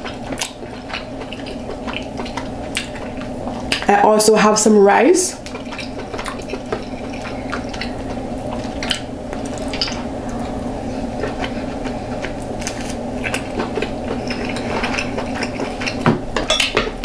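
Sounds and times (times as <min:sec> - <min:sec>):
wet squishing: 0:00.0 - 0:03.9, 0:05.3 - 0:16.0
low hum: 0:00.0 - 0:17.0.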